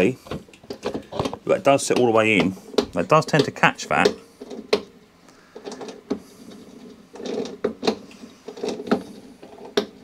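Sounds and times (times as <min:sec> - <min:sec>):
plastic parts rattling: 0:00.2 - 0:10.0.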